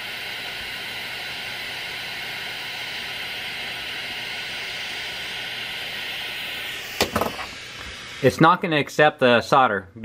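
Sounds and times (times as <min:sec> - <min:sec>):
torch flame hissing: 0:00.0 - 0:09.5.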